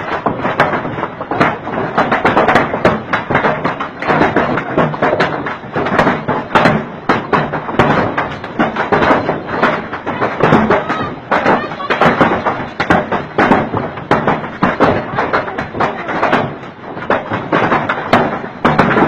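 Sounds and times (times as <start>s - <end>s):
hailstones clattering: 0.0s - 19.0s
rush of falling ice and rain: 0.0s - 19.0s.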